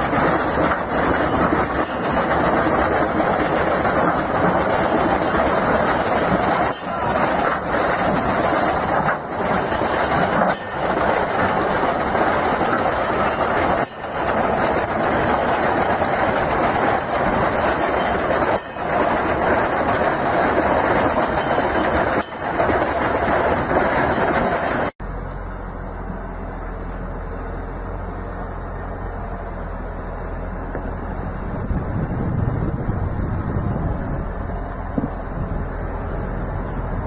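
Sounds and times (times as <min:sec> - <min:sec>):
loud machinery noise: 0:00.0 - 0:37.0.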